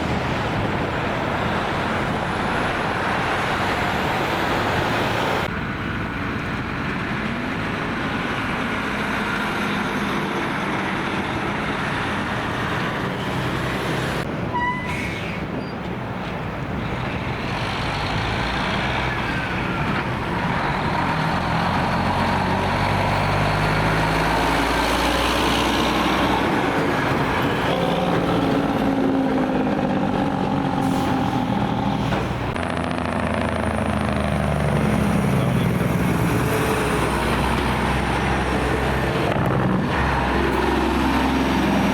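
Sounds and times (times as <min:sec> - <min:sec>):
diesel engine: 0:00.0 - 0:41.9
heavy trucks passing: 0:00.0 - 0:41.9
road and traffic noise: 0:00.0 - 0:41.9.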